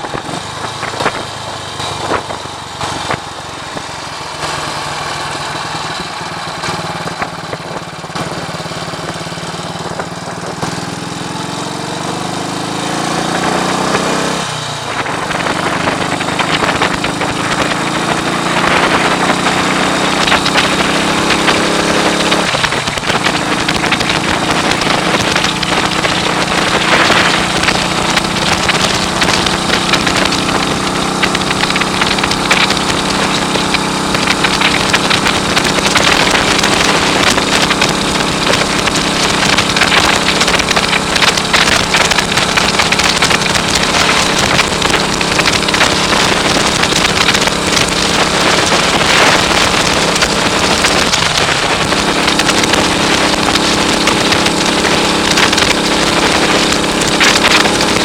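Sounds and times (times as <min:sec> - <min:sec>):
wind buffeting microphone: 0:00.0 - 0:04.5, 0:13.9 - 0:58.0
motorcycle engine running: 0:00.0 - 0:58.0.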